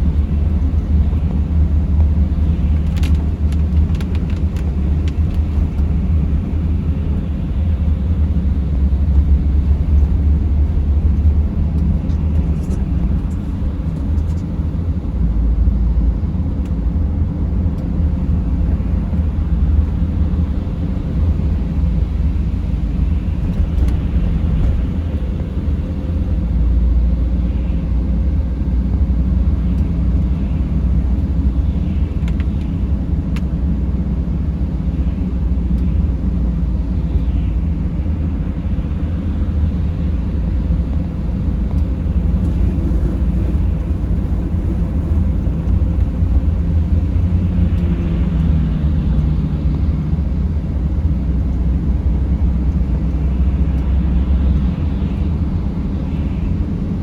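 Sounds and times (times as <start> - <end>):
van engine and tyres rumbling: 0.0 - 57.0.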